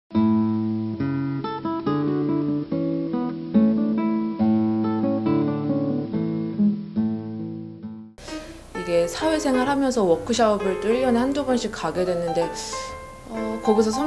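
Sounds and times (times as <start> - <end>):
acoustic guitar music: 0.1 - 14.0.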